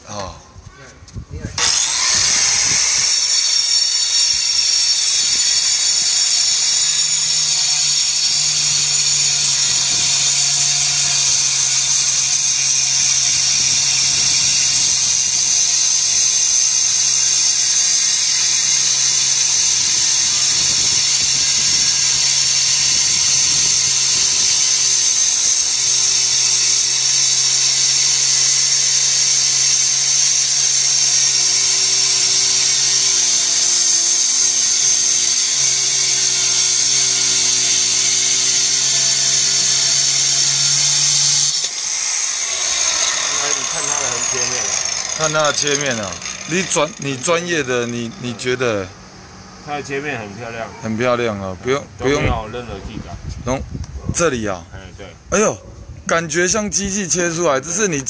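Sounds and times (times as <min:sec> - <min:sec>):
stone cutter grinding whine: 0:01.6 - 0:51.3.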